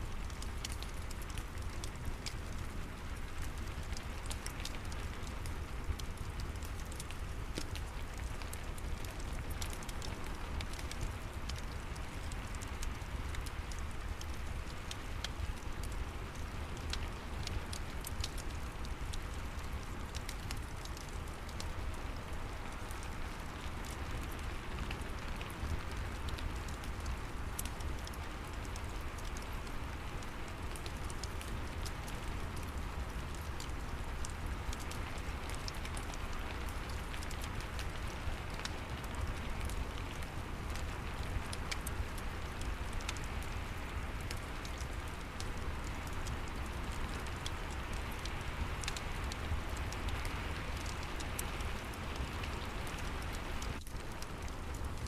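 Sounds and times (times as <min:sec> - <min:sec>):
steady rain falling: 0:00.0 - 0:55.0
wood fire crackling and popping: 0:00.0 - 0:55.0.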